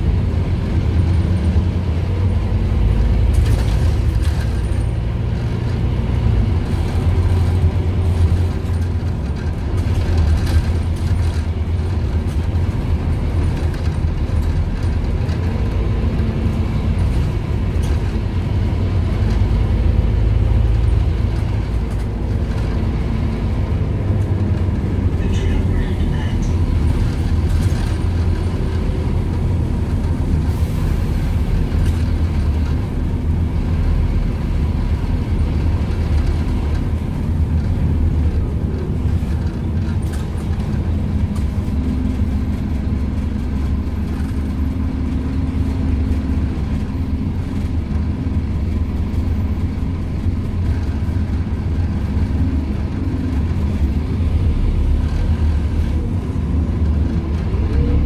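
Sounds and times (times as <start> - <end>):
bus engine drone: 0.0 - 58.0
road and body noise: 0.0 - 58.0.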